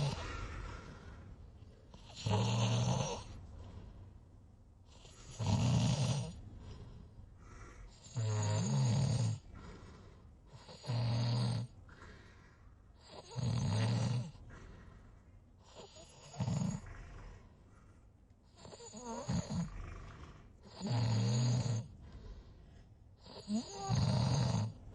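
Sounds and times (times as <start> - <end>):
person snoring: 0.0 - 4.0, 4.9 - 15.0, 15.6 - 17.6, 18.5 - 22.5, 23.2 - 24.9
quiet breathing: 0.0 - 24.9.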